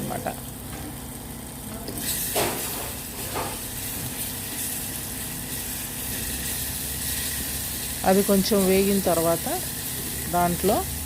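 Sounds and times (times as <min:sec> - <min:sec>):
paste sizzling in hot oil: 0:02.0 - 0:11.0.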